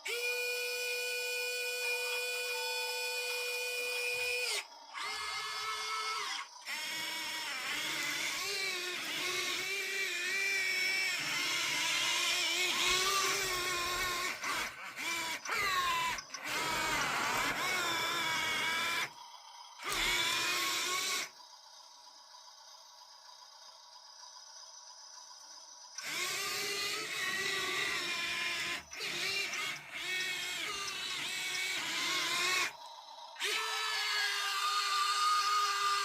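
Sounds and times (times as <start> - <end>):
small electric motors whining: 0.0 - 36.0.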